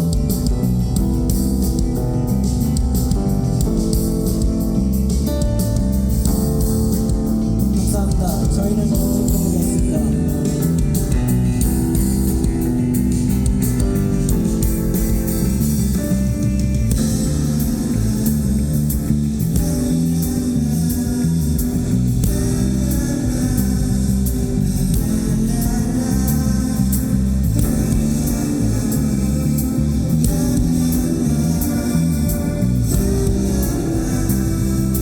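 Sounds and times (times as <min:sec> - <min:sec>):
bass guitar: 0:00.0 - 0:35.0
drums: 0:00.0 - 0:35.0.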